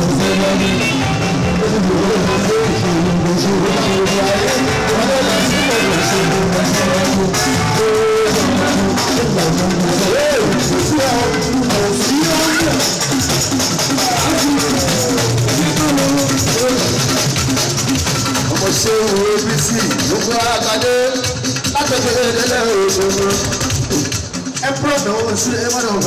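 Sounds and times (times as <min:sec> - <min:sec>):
man singing into microphone: 0:00.0 - 0:13.0, 0:13.9 - 0:17.2, 0:18.4 - 0:26.0
drums: 0:00.0 - 0:26.0
guitar: 0:00.0 - 0:26.0.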